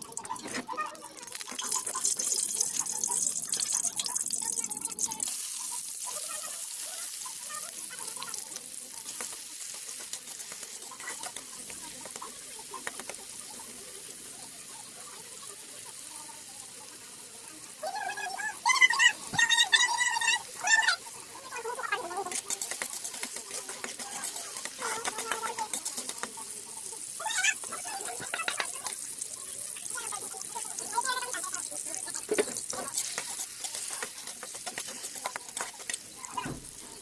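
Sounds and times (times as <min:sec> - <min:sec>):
omelette sizzling in a frying pan: 0:00.0 - 0:37.0.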